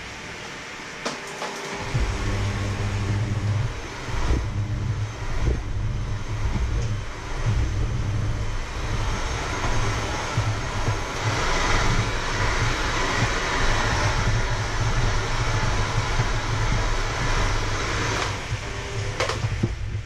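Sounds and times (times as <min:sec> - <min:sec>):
electric hand mixer running: 0:01.6 - 0:20.0.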